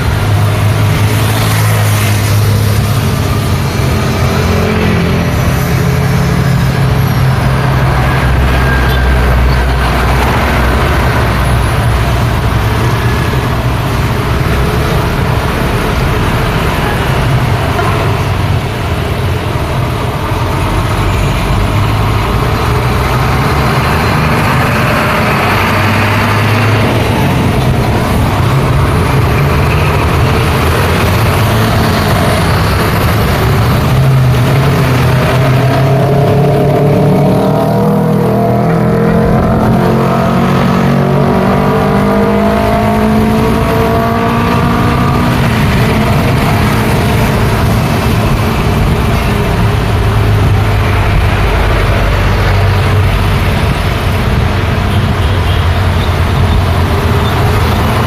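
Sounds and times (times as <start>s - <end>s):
heavy engines running: 0.0s - 58.0s.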